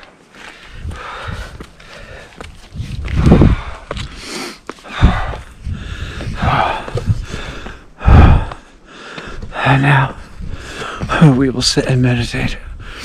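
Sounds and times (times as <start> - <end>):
person breathing: 0.3 - 11.2, 12.7 - 13.0.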